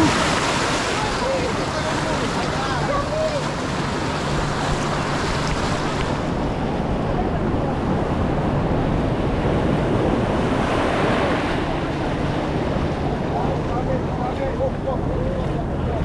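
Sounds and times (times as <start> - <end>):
surf washing onto beach: 0.0 - 15.8.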